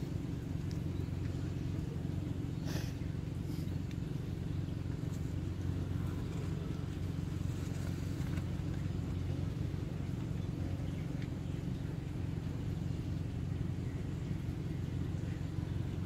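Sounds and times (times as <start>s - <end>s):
low mechanical hum and rumble: 0.0s - 16.0s.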